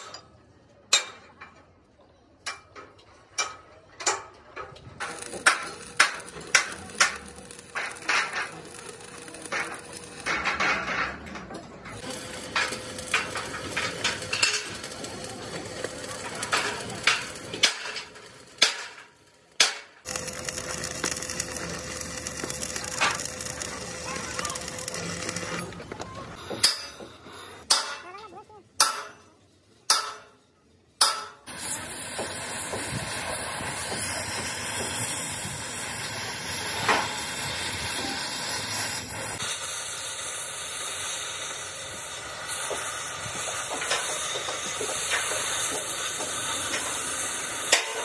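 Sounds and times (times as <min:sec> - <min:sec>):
arc welding crackling: 0:04.1 - 0:27.7, 0:31.1 - 0:48.0.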